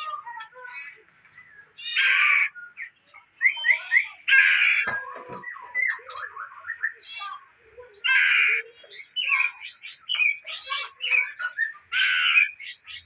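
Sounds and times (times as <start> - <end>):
bird harsh rasping calls: 0.0 - 13.0.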